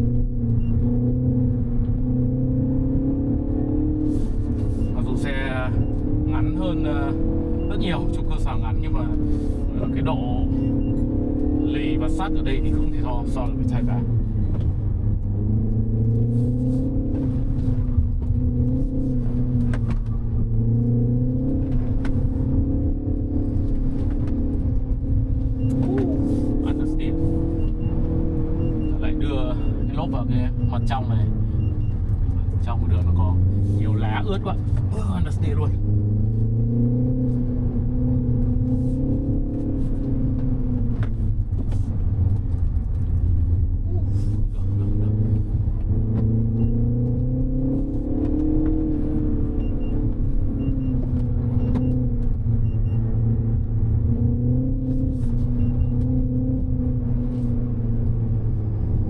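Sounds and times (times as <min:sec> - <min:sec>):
car engine under load: 0:00.0 - 0:59.0
road noise: 0:00.0 - 0:59.0.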